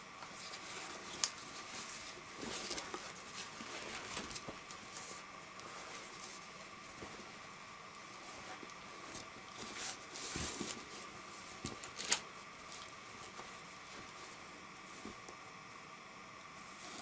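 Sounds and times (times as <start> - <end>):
cloth and plastic rustling: 0.2 - 15.4.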